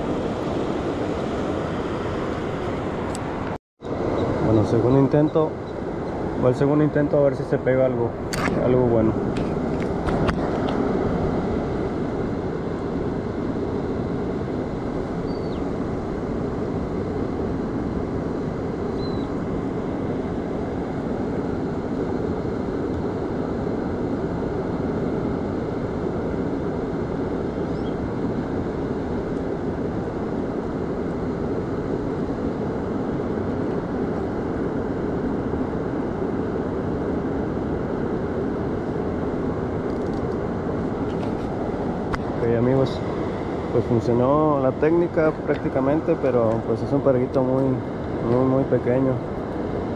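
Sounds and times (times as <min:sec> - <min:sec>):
rushing water and surf: 0:00.0 - 0:49.9.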